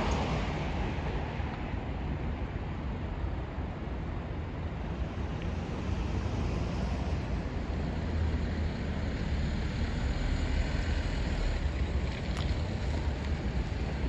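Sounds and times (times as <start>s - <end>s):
city street ambience: 0.0s - 14.0s.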